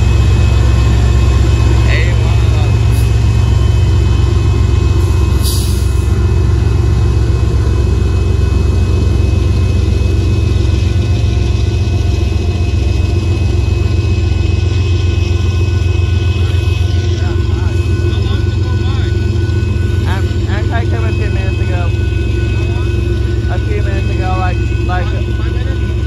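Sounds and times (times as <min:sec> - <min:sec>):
crossing signal ringing: 0:00.0 - 0:26.0
freight cars rumbling over crossing: 0:00.0 - 0:26.0.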